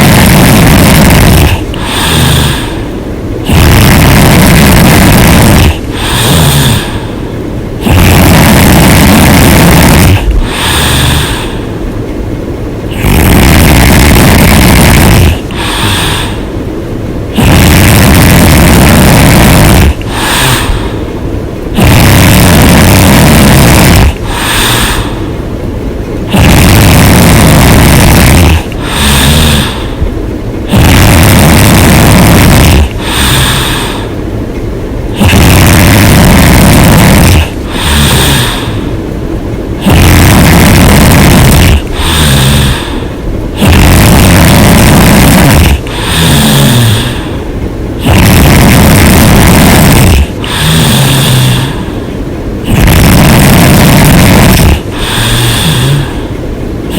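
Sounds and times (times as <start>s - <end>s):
woman snoring loudly: 0.0s - 7.2s, 7.8s - 11.8s, 12.9s - 16.5s, 17.3s - 21.0s, 21.7s - 25.2s, 26.3s - 30.0s, 30.6s - 34.2s, 35.1s - 38.9s, 39.8s - 47.4s, 48.0s - 52.0s, 52.6s - 56.3s
soft breath: 0.0s - 11.9s, 14.1s - 16.7s, 17.3s - 25.6s, 26.3s - 34.4s, 37.0s - 56.5s.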